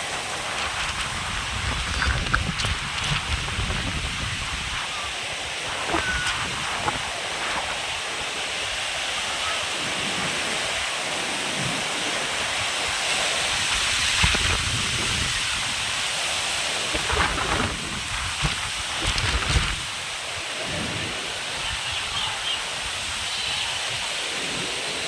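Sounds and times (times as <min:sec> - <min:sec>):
wind buffeting microphone: 0:00.0 - 0:23.3
heavy rain pouring: 0:00.0 - 0:25.0.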